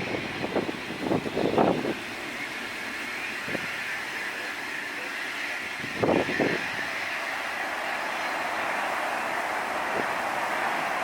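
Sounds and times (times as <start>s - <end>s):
jet engines reverse thrust roar: 0.0s - 11.0s.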